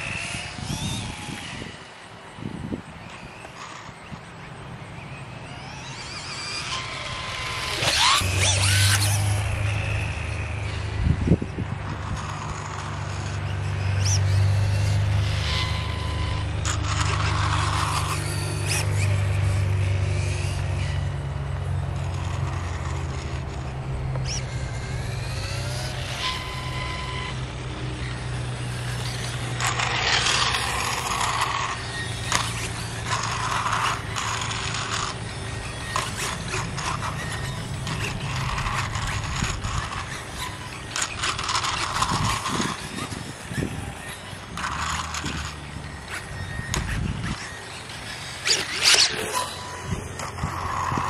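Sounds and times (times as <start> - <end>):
electric motor and chain whirring: 0.0 - 51.0
mechanical rattles: 5.4 - 51.0.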